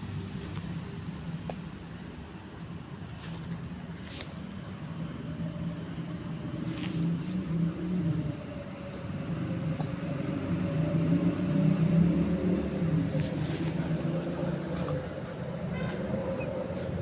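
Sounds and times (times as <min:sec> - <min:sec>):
distant road traffic rumble: 0:00.0 - 0:17.0
engine hum: 0:00.0 - 0:17.0.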